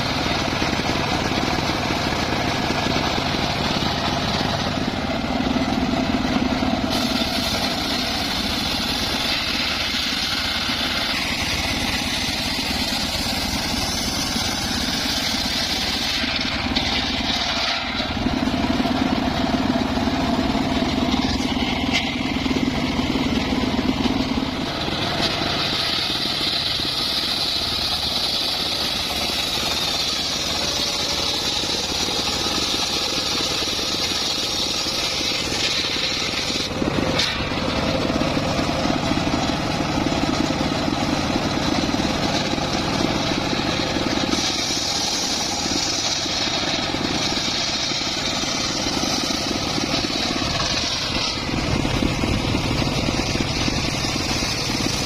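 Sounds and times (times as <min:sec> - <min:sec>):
sawmill blade sawing log: 0:00.0 - 0:55.0.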